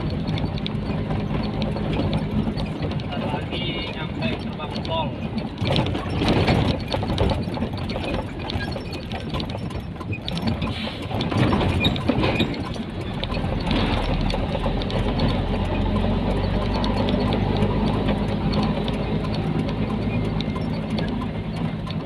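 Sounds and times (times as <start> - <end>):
clicks and rattles: 0.0 - 22.0
truck engine from inside cab: 0.0 - 22.0.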